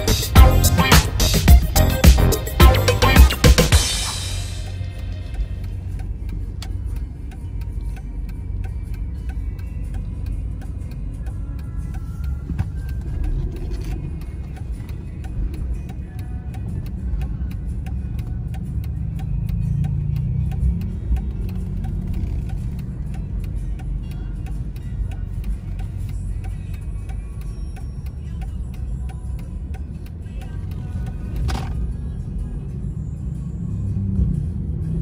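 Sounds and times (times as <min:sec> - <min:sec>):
engine and road rumble: 0:00.0 - 0:35.0
turn signal ticking: 0:04.6 - 0:35.0.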